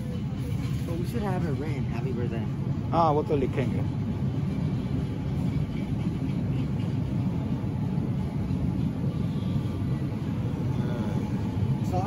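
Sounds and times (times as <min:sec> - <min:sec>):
store background rumble and hum: 0:00.0 - 0:12.0.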